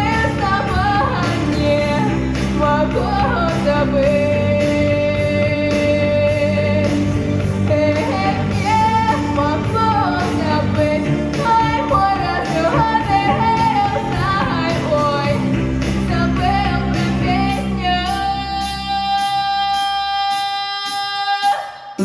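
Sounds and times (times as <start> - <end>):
instrumental backing track: 0.0 - 20.3
woman singing: 0.0 - 22.0.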